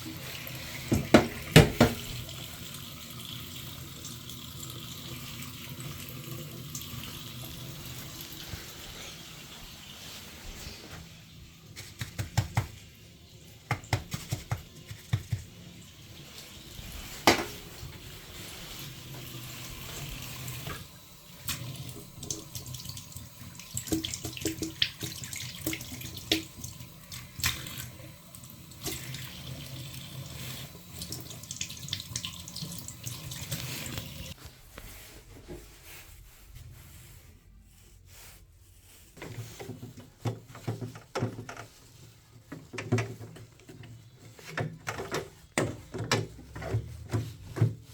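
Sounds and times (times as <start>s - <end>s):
tap water running into sink: 0.0s - 10.2s, 11.6s - 34.4s, 39.2s - 47.9s.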